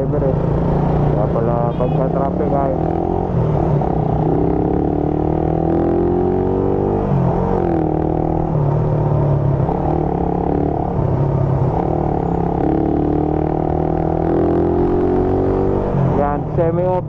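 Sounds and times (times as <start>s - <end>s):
motorcycle engine revving: 0.0s - 16.8s.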